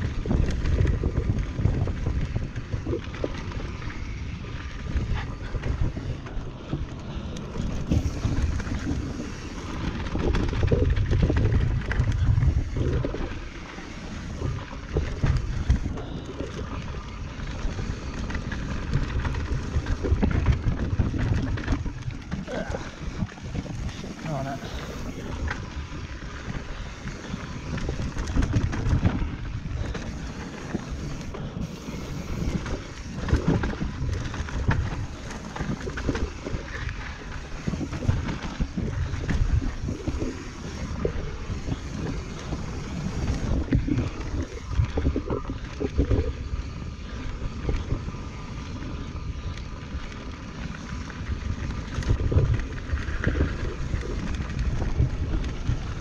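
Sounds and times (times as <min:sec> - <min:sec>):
bike rattling over bumps: 0:00.0 - 0:56.0
tyre roar on dirt trail: 0:00.0 - 0:56.0
wind buffeting microphone: 0:00.0 - 0:56.0.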